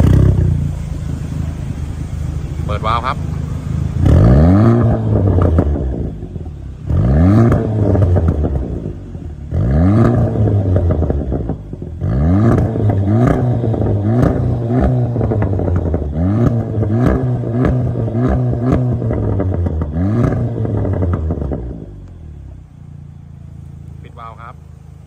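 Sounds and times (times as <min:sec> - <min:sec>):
car engine revving: 0:00.0 - 0:25.0
exhaust crackles: 0:00.0 - 0:25.0.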